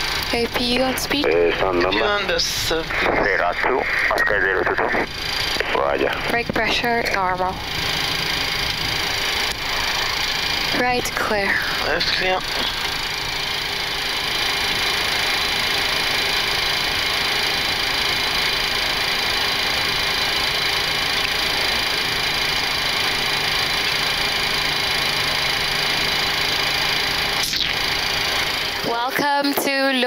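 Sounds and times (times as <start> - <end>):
aircraft engines idling hum and whine: 0.0 - 30.0.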